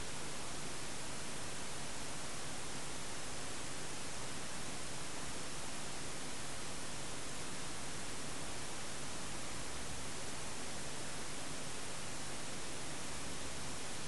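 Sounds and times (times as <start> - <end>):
recording hiss: 0.0 - 14.0.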